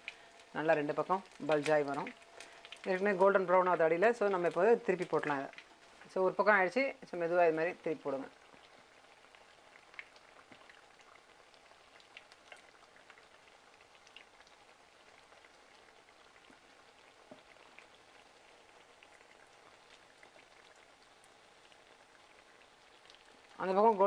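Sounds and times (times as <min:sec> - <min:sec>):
oil sizzling and crackling: 0:00.0 - 0:24.0.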